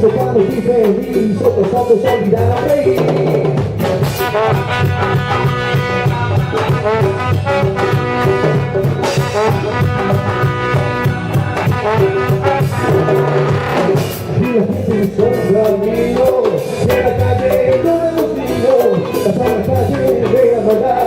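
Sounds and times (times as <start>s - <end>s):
brass section playing: 0.0s - 21.0s
drums beat: 0.0s - 21.0s.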